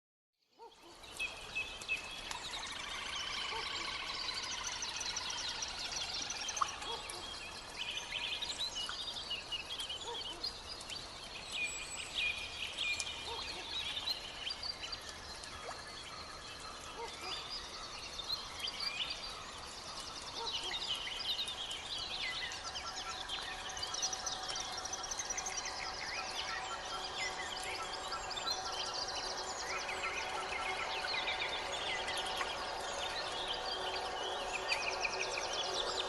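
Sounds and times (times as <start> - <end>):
birds singing and chirping: 0.6 - 36.0.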